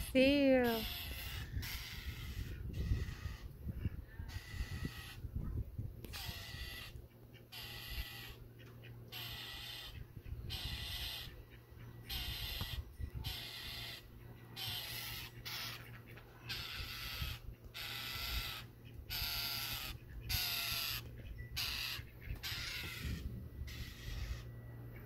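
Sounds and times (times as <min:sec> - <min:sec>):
bird harsh rasping scold calls: 0:00.0 - 0:03.5, 0:04.3 - 0:05.3, 0:06.1 - 0:24.6.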